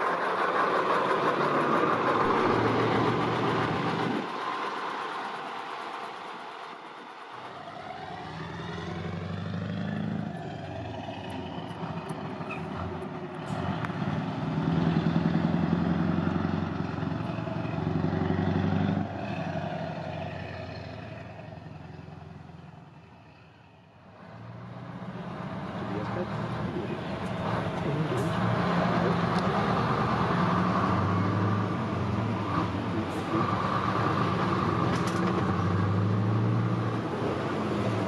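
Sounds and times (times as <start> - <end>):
truck engine driving past: 0.0 - 38.0.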